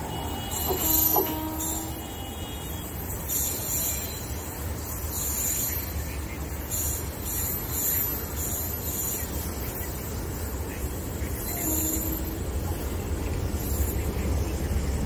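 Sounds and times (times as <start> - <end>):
train rumbling away: 0.0 - 15.0.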